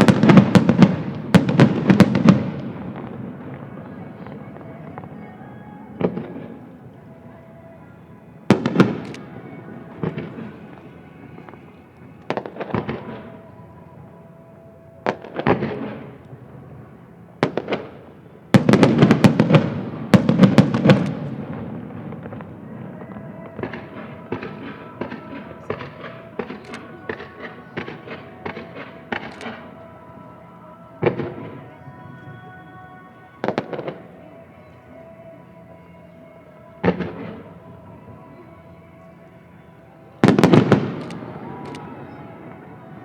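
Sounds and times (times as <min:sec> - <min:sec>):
fireworks bursting with echo: 0:00.0 - 0:43.0
rapid fireworks crackling: 0:00.0 - 0:43.0.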